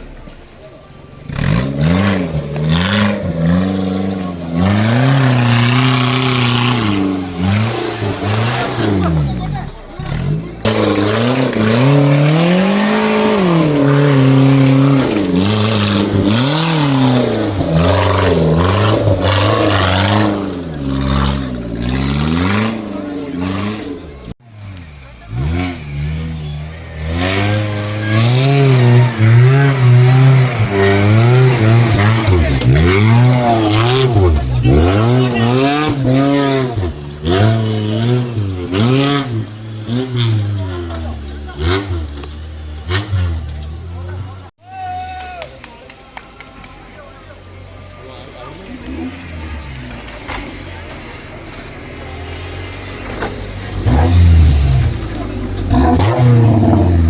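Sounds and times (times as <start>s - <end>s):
vehicle engine revving: 0.0s - 44.6s, 45.8s - 57.0s.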